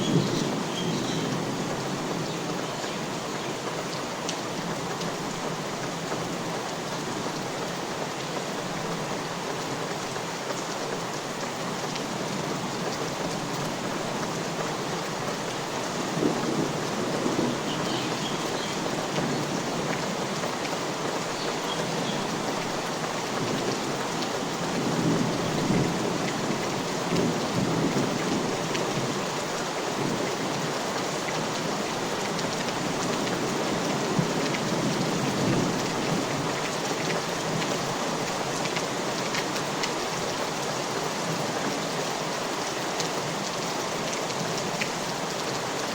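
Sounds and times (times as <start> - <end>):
rain falling on surfaces: 0.0 - 45.9.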